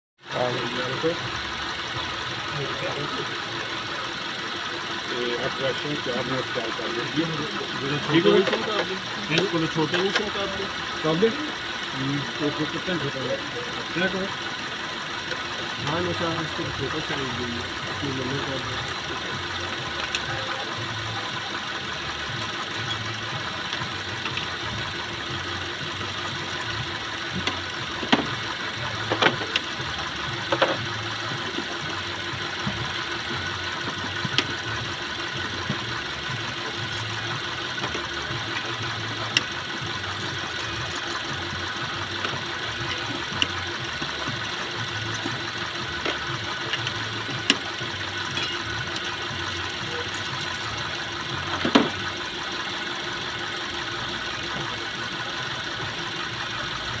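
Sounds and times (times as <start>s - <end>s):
car engine idling unevenly: 0.2s - 57.0s.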